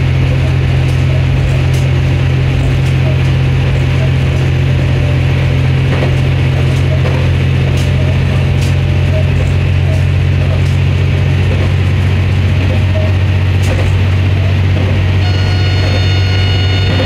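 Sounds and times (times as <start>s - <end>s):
diesel railcar droning: 0.0s - 17.0s.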